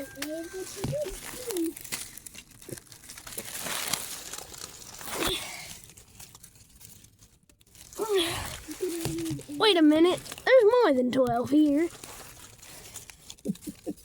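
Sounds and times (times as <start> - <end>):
dry nesting material rustling: 0.0 - 14.0.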